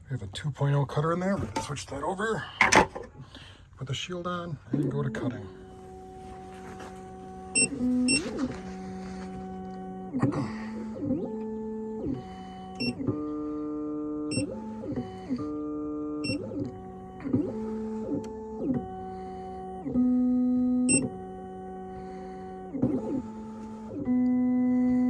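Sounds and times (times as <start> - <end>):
key machine stepper motors whining: 4.8 - 25.0.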